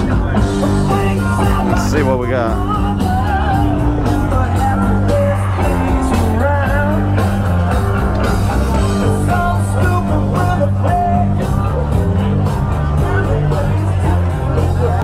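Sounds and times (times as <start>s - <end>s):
person singing: 0.0s - 7.7s, 8.7s - 15.0s
rock music bass and drums: 0.0s - 15.0s.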